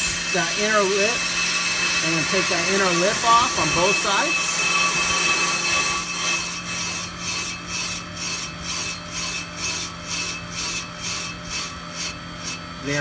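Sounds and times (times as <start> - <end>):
lathe bits rasping on brake disc: 0.0 - 13.0
lathe motor humming: 0.0 - 13.0.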